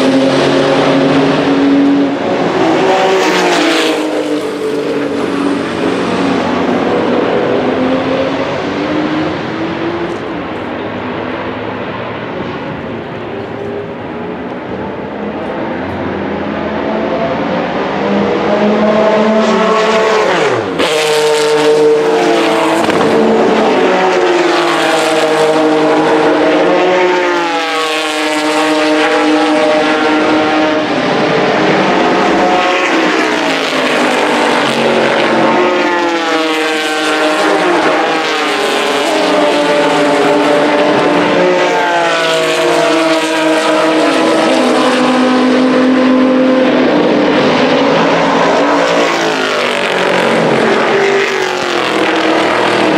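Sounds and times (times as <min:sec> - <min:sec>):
race car engines at full throttle: 0:00.0 - 0:52.9
race car passing by: 0:00.0 - 0:52.9.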